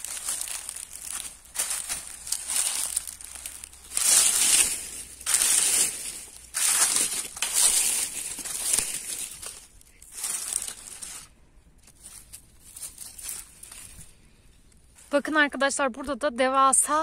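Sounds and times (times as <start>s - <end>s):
dry leaves crunching: 0.0s - 14.2s.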